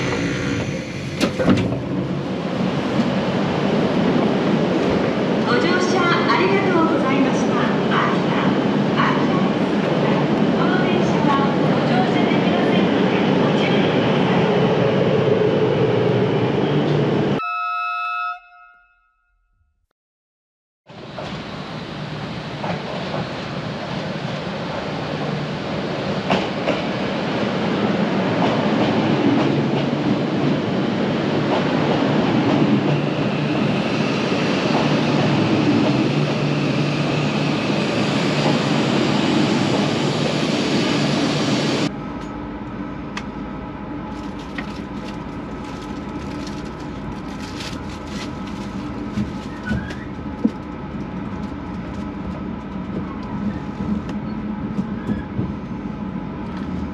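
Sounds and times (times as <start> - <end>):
train rumbling on rails: 0.0 - 17.4, 20.9 - 56.9
steady train hum: 0.0 - 17.6, 20.9 - 56.9.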